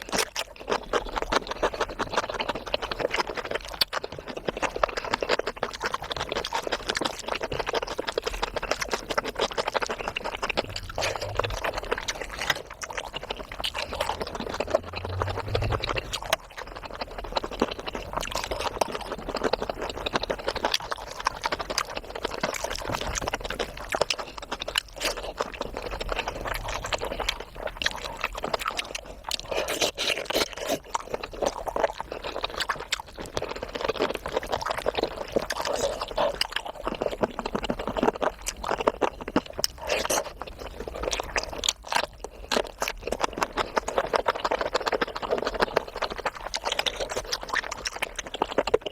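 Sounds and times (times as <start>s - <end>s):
wet chewing: 0.0s - 48.9s.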